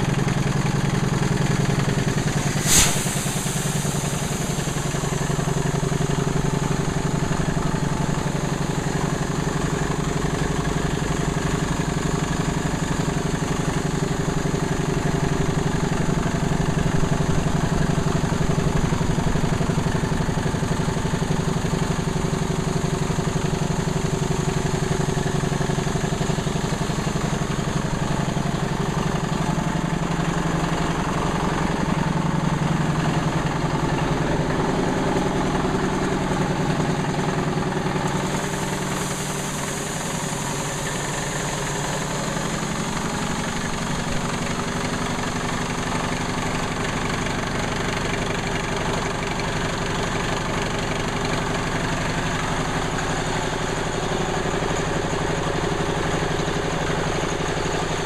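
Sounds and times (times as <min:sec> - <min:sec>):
diesel compressor running: 0:00.0 - 0:58.0.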